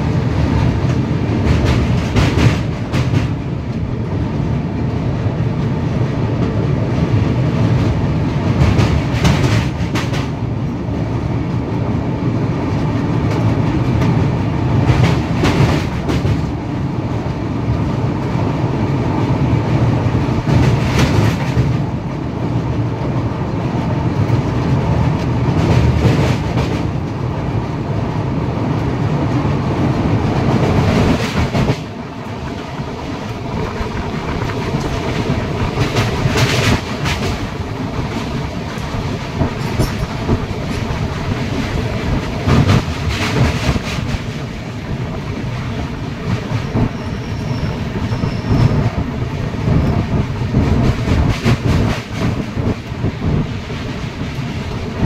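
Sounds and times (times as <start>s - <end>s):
train clatters: 0.0s - 55.0s
train wheels rumbling on rails: 0.0s - 55.0s.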